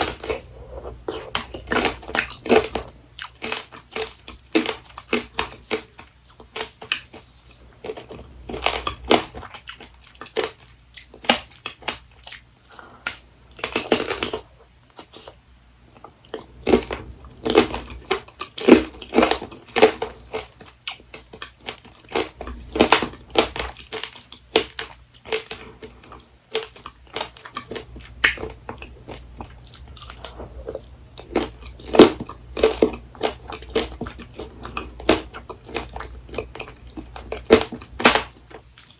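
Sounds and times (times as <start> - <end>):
crunching candied fruit: 0.0 - 38.9.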